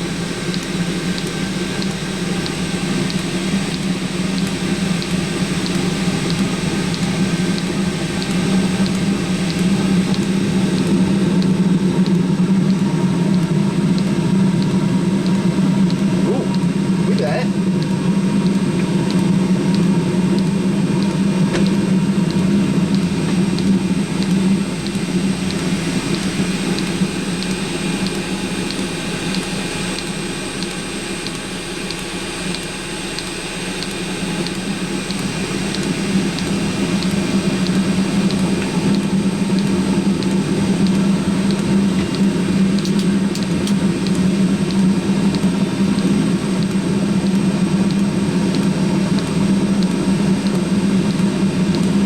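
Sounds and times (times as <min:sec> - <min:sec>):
heater fan and burner hum: 0:00.0 - 0:52.0.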